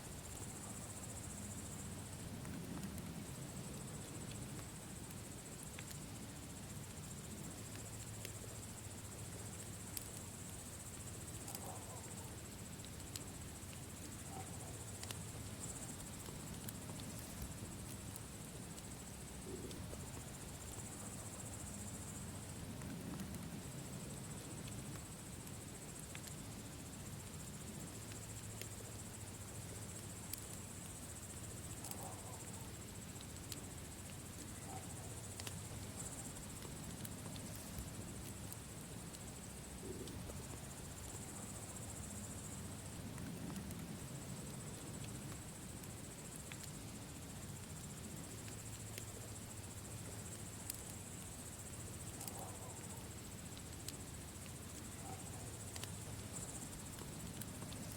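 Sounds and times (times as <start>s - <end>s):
crickets chirring: 0.0s - 57.9s
campfire crackling and popping: 1.2s - 57.9s.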